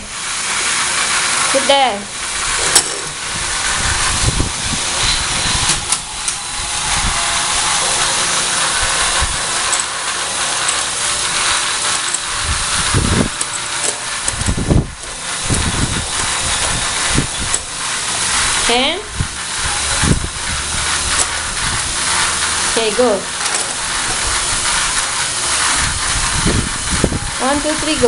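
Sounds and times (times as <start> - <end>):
toy train motor whirring: 0.0 - 28.0.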